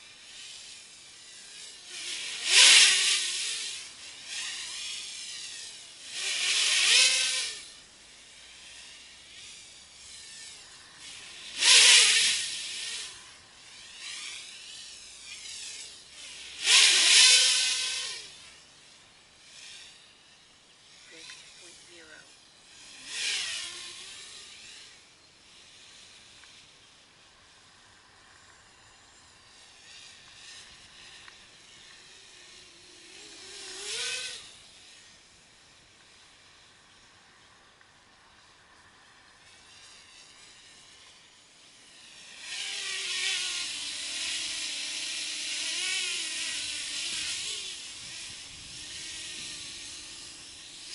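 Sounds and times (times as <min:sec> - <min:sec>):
quadcopter propellers whirring: 0:00.0 - 0:50.9.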